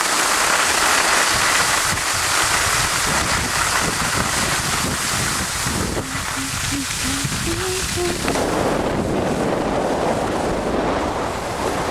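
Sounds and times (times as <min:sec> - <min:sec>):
skis sliding on snow: 0:00.0 - 0:11.9
wind on microphone: 0:01.3 - 0:11.9.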